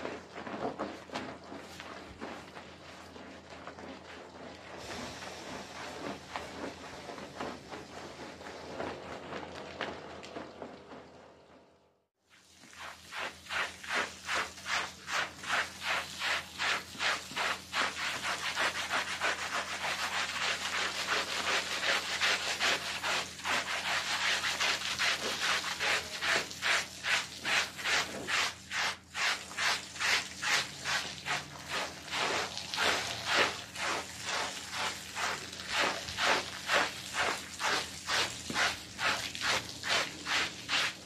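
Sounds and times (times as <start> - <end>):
brush scrubbing wet rug: 0.0 - 11.0, 12.4 - 41.0.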